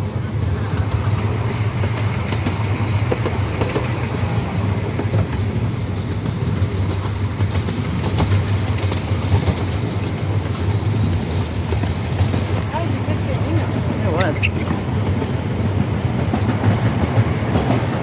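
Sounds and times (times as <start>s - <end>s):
train rumbling: 0.0s - 18.0s
wheels clicking over track: 0.2s - 18.0s.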